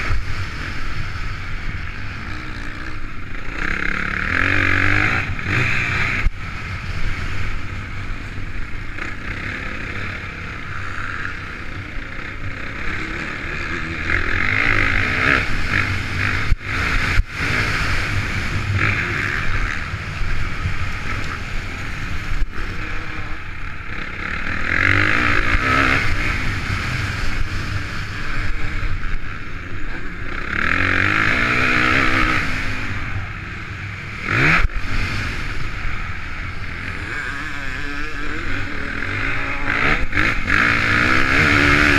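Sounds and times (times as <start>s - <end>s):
motocross engine revving: 0.0s - 41.9s.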